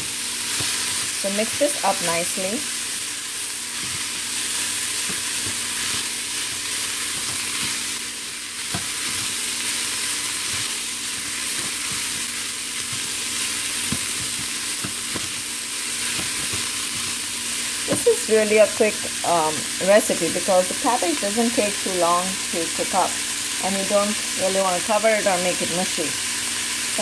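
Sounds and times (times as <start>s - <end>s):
vegetables sizzling in oil: 0.0s - 27.0s.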